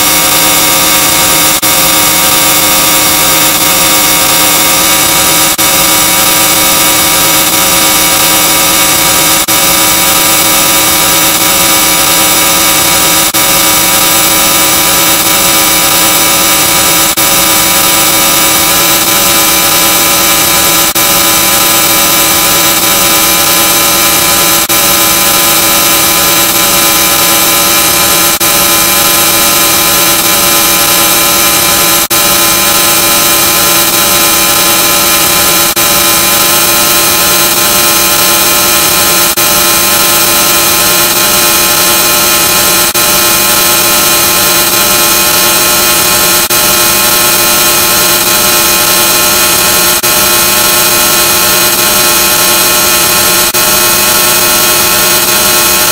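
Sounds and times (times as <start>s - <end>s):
distorted electronic buzzing drone: 0.0s - 55.9s.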